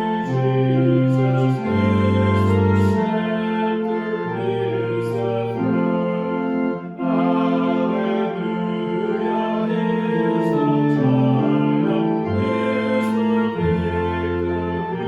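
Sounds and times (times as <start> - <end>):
organ playing a hymn: 0.0 - 15.0.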